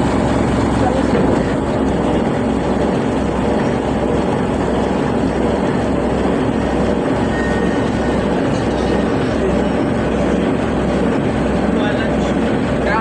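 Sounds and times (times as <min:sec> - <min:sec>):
ship engine droning: 0:00.0 - 0:13.0
wash of noise: 0:00.0 - 0:13.0.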